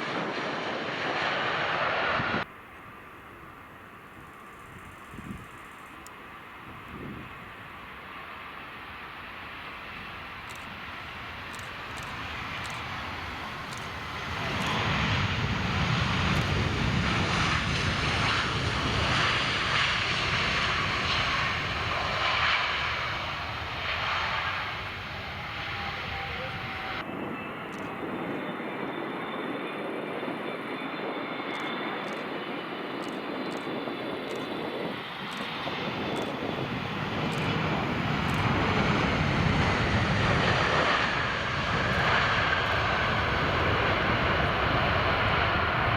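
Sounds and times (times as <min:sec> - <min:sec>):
wind buffeting microphone: 0:00.0 - 0:08.3, 0:09.9 - 0:45.9
high engine whine: 0:00.0 - 0:45.9
jet engines running: 0:00.0 - 0:45.9.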